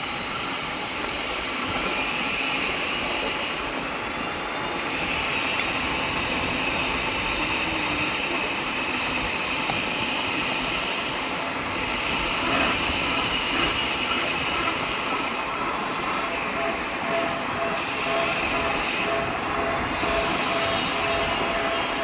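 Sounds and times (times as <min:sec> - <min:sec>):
metalworking machine whining: 0:00.0 - 0:22.0.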